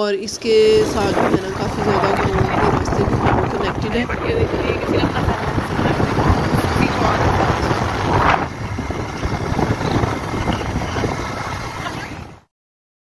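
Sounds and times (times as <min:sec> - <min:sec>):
road noise: 0:00.0 - 0:12.5
wind buffeting microphone: 0:00.0 - 0:12.5.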